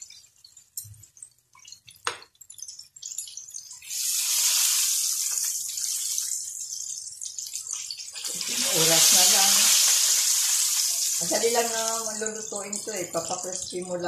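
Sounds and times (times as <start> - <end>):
oil sizzling around frying chicken: 0.0 - 14.0.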